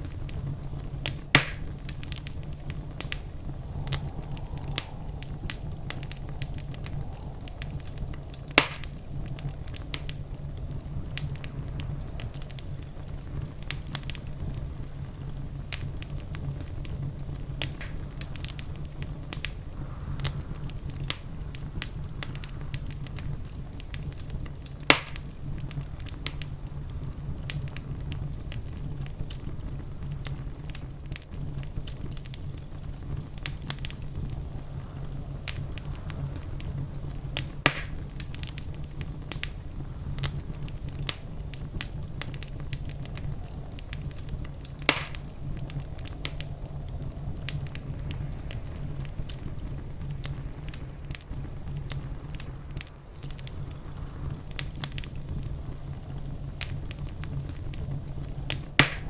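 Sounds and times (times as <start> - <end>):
wood fire crackling in fireplace: 0.0 - 59.0.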